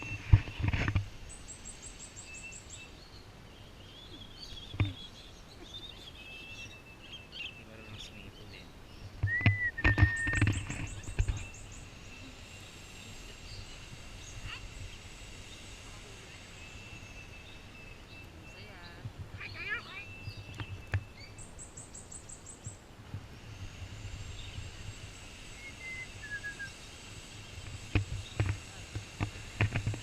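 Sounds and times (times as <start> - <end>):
birds chirping and whistling: 0.0 - 22.8, 23.4 - 30.0.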